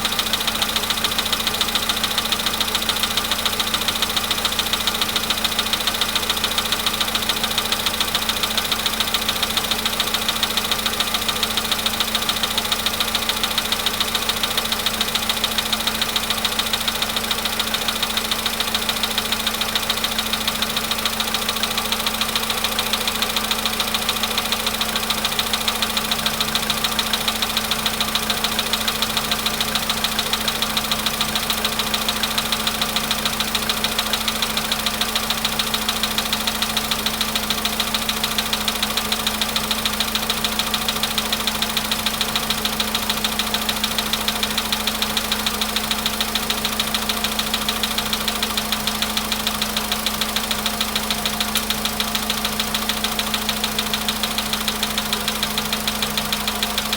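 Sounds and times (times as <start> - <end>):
car engine idling with knock: 0.0 - 56.9.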